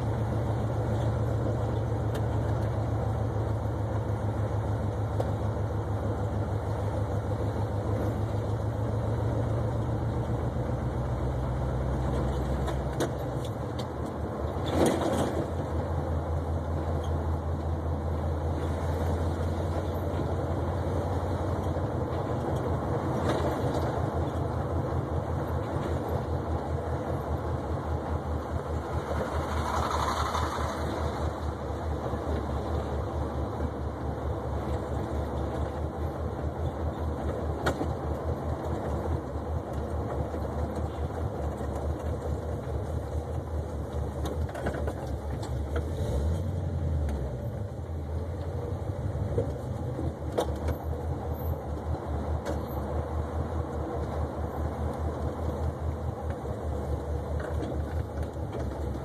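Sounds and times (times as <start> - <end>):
car engine exhaust rumble: 0.0 - 59.0.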